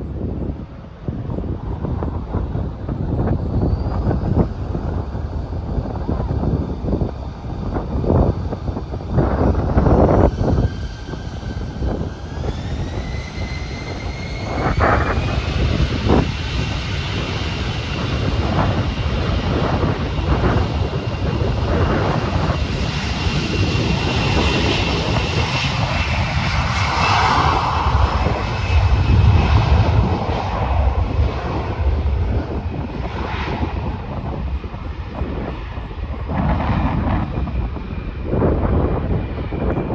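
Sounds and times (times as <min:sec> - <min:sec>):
jet engines spooling up: 0:00.0 - 0:39.9.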